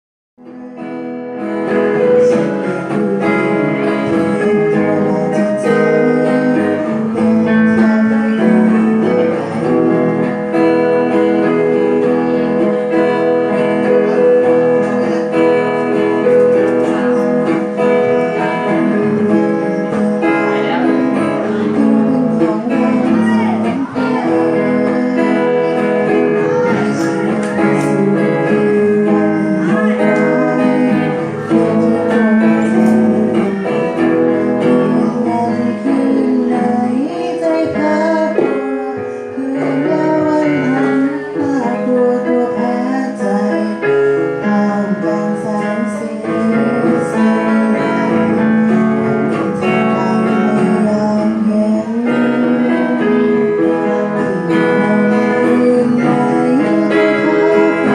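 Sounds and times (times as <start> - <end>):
acoustic guitar: 0.4 - 57.9
person singing: 0.4 - 57.9.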